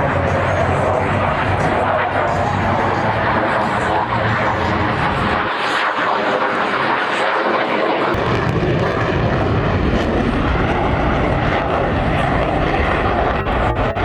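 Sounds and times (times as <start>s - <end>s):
jet engine noise: 0.0s - 14.0s.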